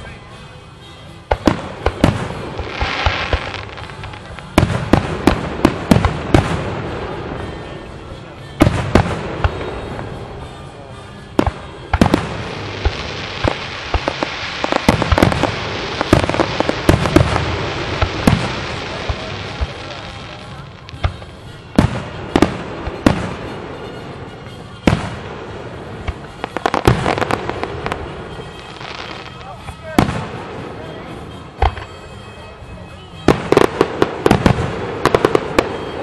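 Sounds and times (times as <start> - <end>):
fireworks booming and crackling: 1.3 - 36.0.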